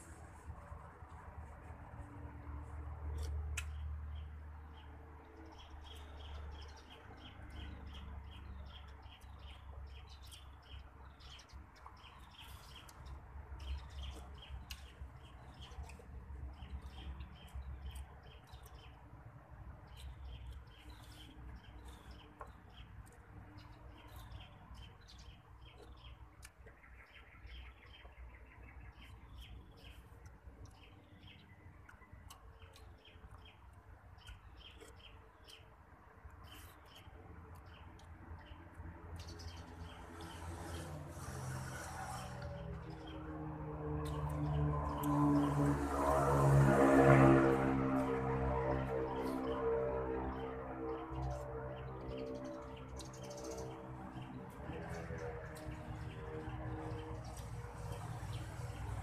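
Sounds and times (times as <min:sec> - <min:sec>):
small birds chirping: 0:00.0 - 0:46.1, 0:47.5 - 0:59.0.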